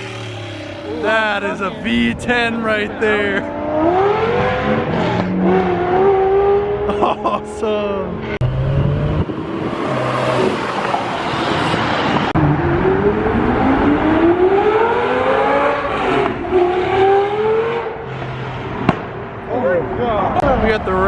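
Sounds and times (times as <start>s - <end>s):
sports car engine accelerating: 0.0s - 18.2s.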